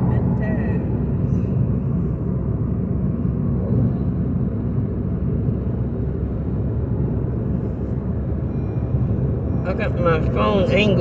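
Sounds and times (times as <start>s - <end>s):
car cabin road noise: 0.0s - 11.0s.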